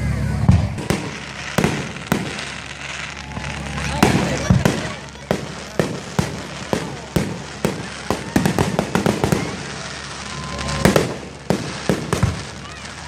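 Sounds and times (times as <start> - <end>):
crackling firework pops: 0.4 - 13.0
firework shells bursting: 0.5 - 13.0.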